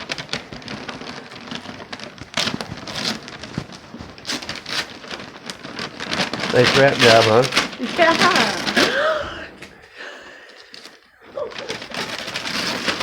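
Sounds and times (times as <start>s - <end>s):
loud paper rips: 0.0s - 9.8s, 10.7s - 13.0s
wrapping paper tearing and crinkling: 0.0s - 13.0s.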